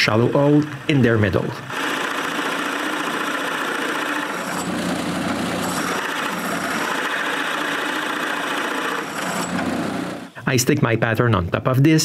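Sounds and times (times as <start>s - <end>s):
drill press boring wood: 0.0s - 10.4s.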